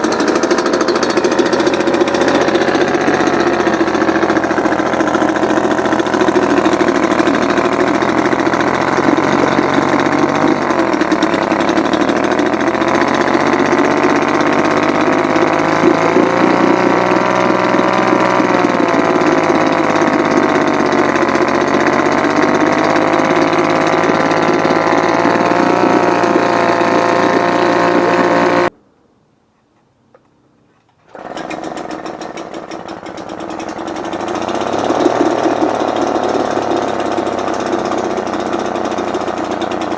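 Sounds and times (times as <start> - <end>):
outboard motor rattling: 0.0 - 28.7, 31.0 - 39.9.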